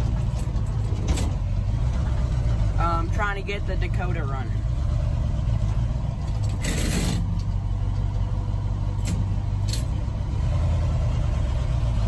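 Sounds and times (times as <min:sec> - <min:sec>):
vehicle rumbling from inside: 0:00.0 - 0:12.0.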